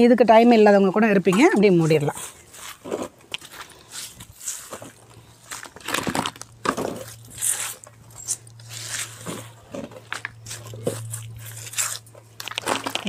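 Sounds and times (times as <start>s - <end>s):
leaves rustling and crunching: 2.1s - 13.0s.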